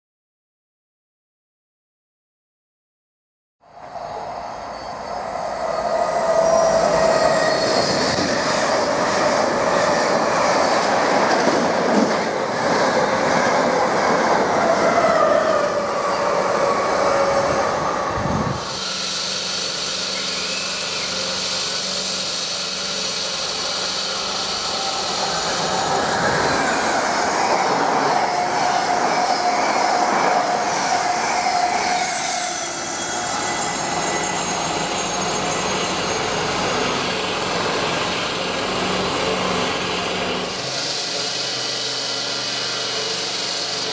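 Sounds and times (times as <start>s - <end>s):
train whine: 3.6s - 43.9s
train wheels rumbling on rails: 3.8s - 43.9s.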